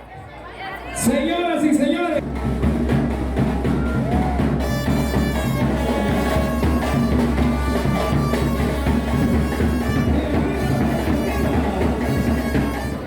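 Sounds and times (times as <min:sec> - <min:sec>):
carnival music with drums: 0:01.0 - 0:13.0.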